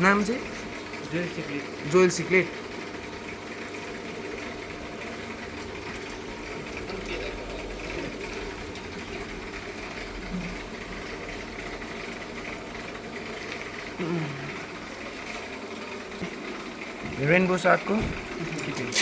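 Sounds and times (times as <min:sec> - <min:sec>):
aquarium air pumps humming: 0:00.0 - 0:19.0.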